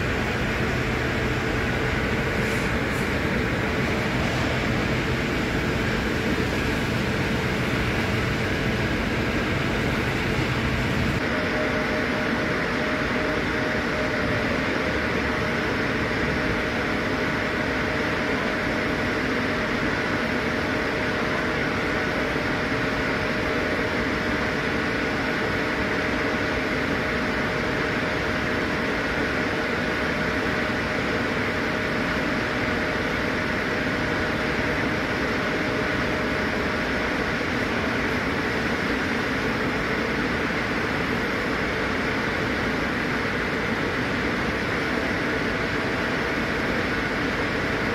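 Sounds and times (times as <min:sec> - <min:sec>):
mechanical hum and hiss: 0:00.0 - 0:47.9.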